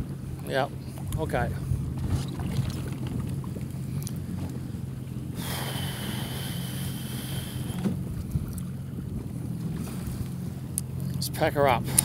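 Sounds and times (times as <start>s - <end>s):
jet ski engine idling: 0.0s - 12.0s.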